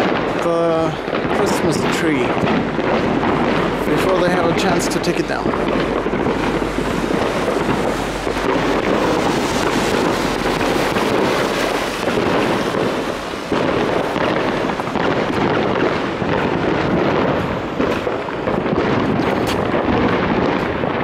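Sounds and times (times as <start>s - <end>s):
fireworks popping and banging: 0.0s - 21.0s.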